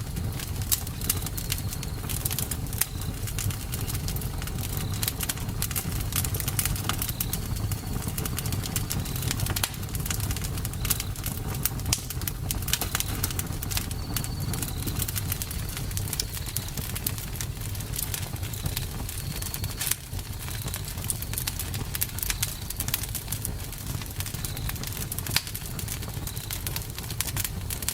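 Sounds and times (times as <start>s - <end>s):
campfire crackling and popping: 0.0s - 27.9s
low rumble of flames: 0.0s - 27.9s.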